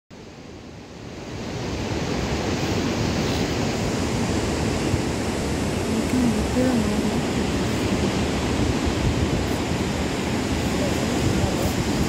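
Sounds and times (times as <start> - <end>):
white-water rapids and waterfall rushing: 0.2 - 12.0.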